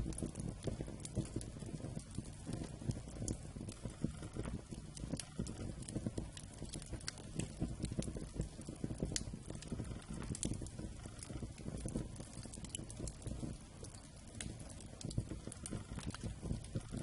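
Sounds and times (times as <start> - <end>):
campfire crackling and popping: 0.0 - 17.0
low rumble of burning: 0.0 - 17.0.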